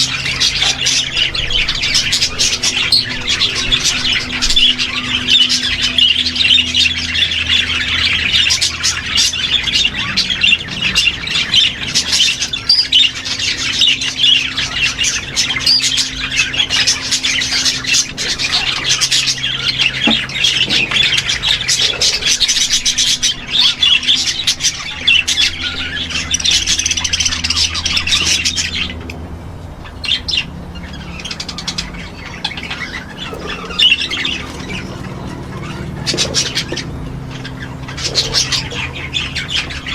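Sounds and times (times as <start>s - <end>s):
parrots chattering and squawking: 0.0s - 39.9s.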